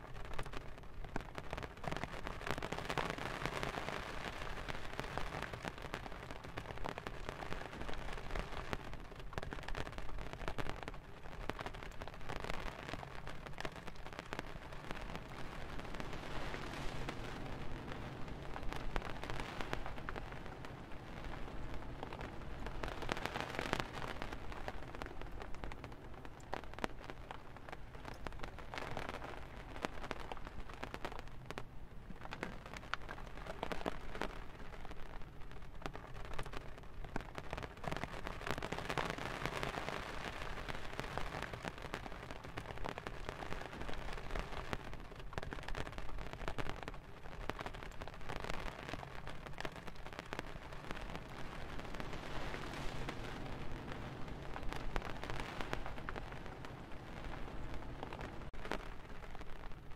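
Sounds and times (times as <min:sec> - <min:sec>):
rain on tent roof: 0:00.0 - 0:59.9.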